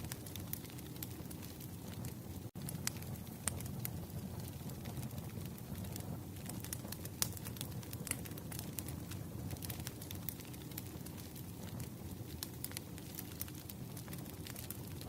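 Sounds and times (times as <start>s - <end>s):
low rumble of fire: 0.0s - 15.0s
wood fire crackling and popping: 0.0s - 15.0s.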